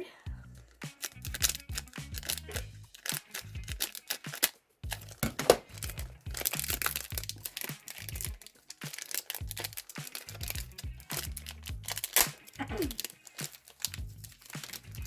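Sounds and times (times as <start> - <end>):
plastic wrapper crinkling and tearing: 0.7 - 15.0.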